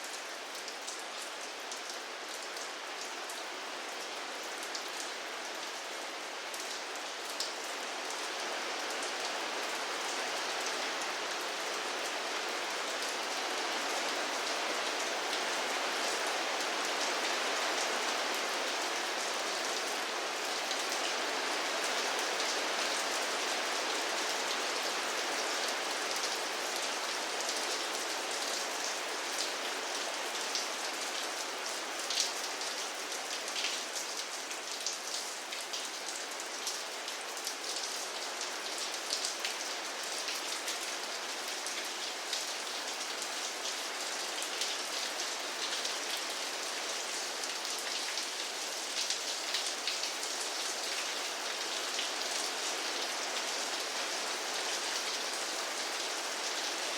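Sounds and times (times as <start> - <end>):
rain on a hard surface: 0.0 - 56.9.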